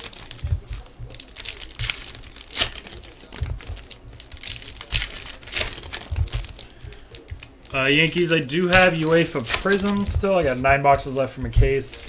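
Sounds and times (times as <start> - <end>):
wrapper ripping: 0.0 - 10.6, 11.4 - 12.0
wrapper crinkling: 0.0 - 12.0.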